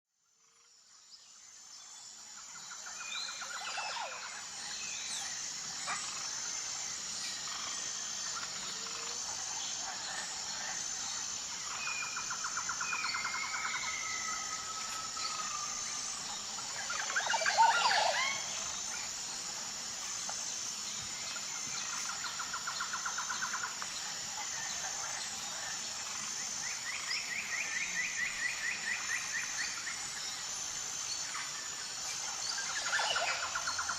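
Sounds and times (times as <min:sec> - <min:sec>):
high insect drone: 0:00.2 - 0:33.9
bird calls and trills: 0:00.5 - 0:33.9.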